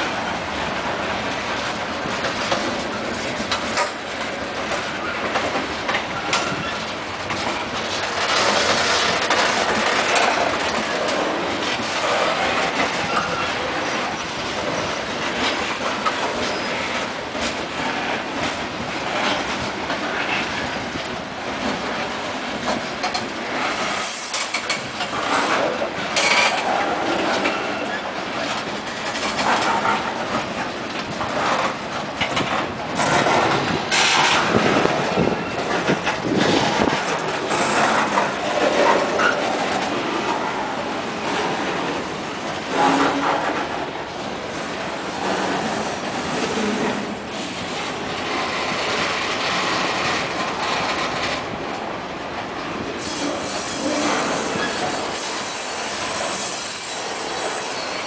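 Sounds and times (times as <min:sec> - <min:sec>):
steel wheels rumbling on rails: 0:00.0 - 0:58.0
wheels clanking over rail joints: 0:00.0 - 0:58.0.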